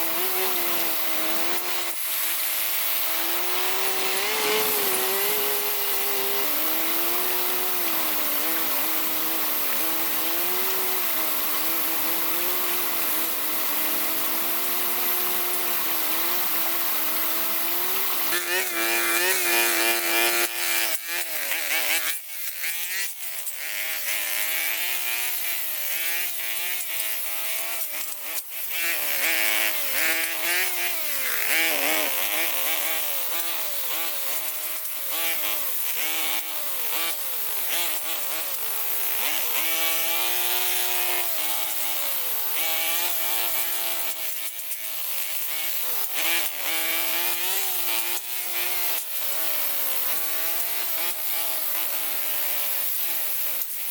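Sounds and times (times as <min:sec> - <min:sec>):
two-stroke tool engine cutting: 0:00.0 - 0:53.9.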